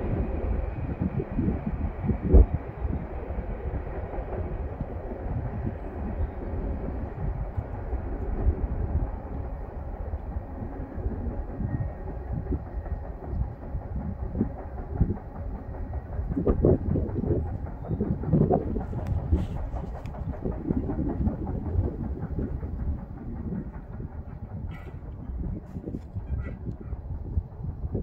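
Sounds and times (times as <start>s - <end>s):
train cars rumbling on rails: 0.0s - 28.0s
train clanks: 0.0s - 28.0s.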